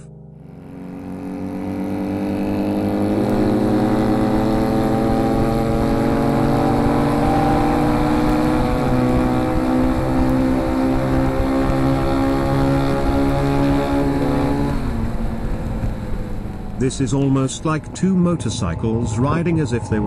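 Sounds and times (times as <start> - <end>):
motorcycle engines running: 0.0 - 18.5.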